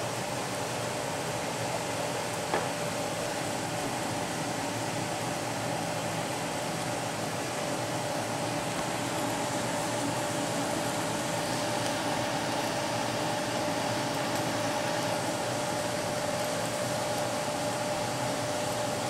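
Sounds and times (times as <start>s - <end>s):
range-hood exhaust fan running: 0.0s - 19.0s.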